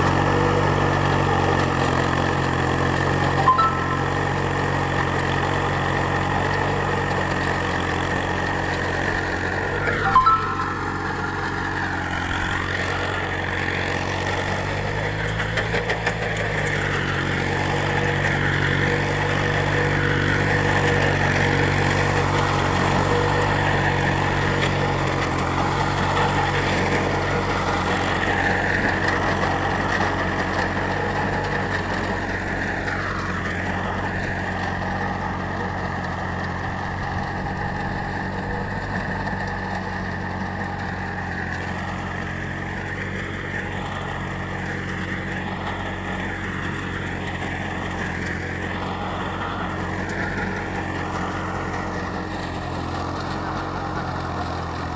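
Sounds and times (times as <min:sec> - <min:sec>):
small tractor engine running: 0:00.0 - 0:54.9.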